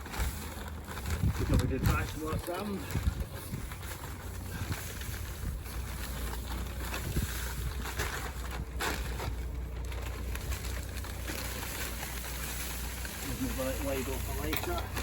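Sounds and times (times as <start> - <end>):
wind rumbling on microphone: 0.0 - 13.3
sand scraping and rustling: 0.0 - 15.0.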